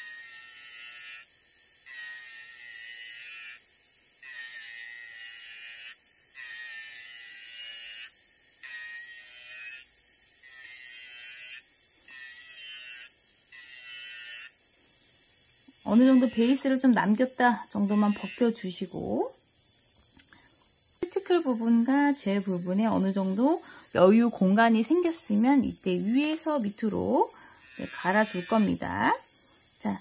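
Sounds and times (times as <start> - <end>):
electric nail drill whining: 0.0 - 30.0.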